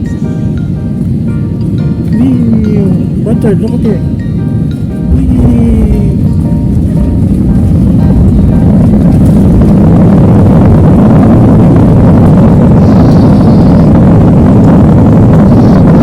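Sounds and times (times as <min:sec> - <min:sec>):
jet engines from inside cabin: 0:00.0 - 0:16.0.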